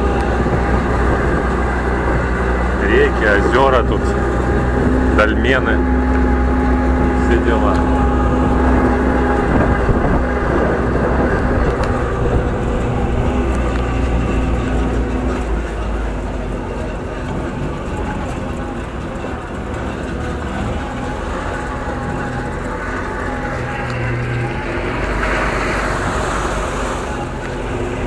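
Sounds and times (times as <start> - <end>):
truck engine running: 0.0 - 28.0
wind noise: 0.0 - 28.0.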